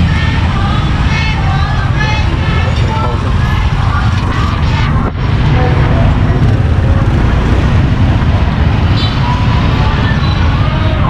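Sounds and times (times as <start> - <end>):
scooter and motorbike engines rumbling: 0.0 - 11.0.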